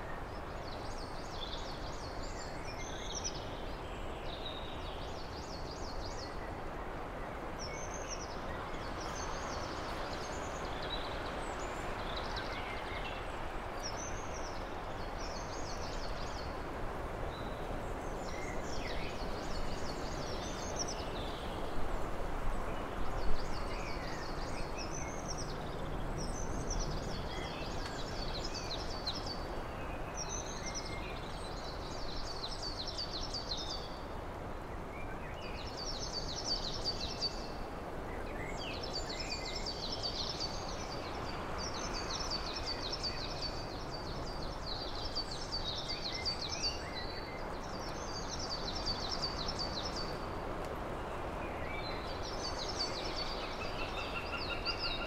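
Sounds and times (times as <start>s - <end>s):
outdoor background hiss: 0.0s - 55.0s
songbird singing: 0.0s - 55.0s.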